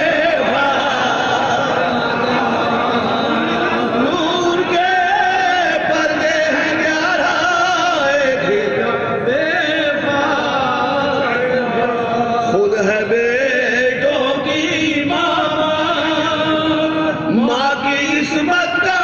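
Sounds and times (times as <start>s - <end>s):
man chanting a slow melody: 0.0s - 19.0s.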